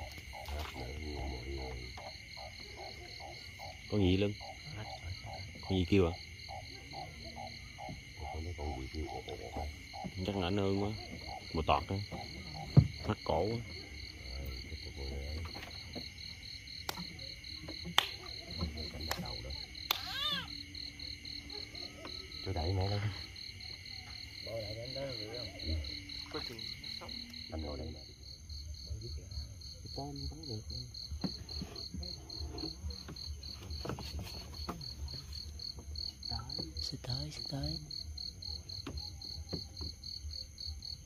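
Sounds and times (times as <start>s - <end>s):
night insects trilling: 0.0s - 41.0s.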